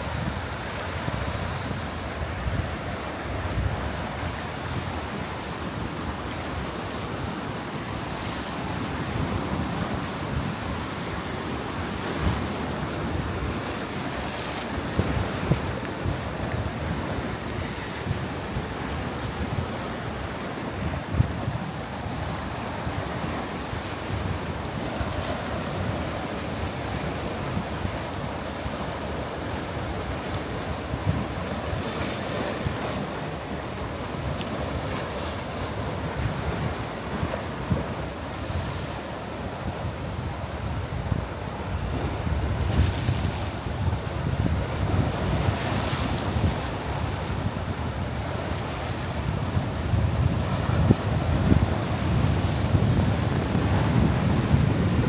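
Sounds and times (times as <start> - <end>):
waves splashing on rocks: 0.0 - 55.0
wind buffeting the microphone: 0.0 - 55.0.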